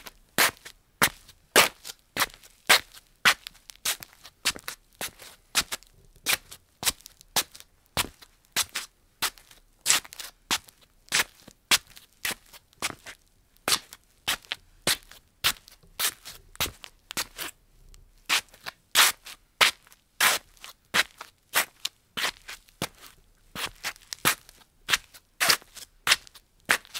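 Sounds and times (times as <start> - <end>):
slippers shuffling on tile: 0.0 - 17.6, 18.3 - 26.9.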